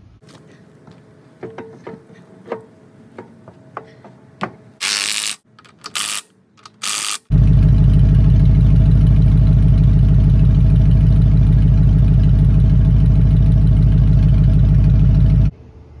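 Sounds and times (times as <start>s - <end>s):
car engine idling: 0.0s - 4.8s, 7.3s - 15.5s.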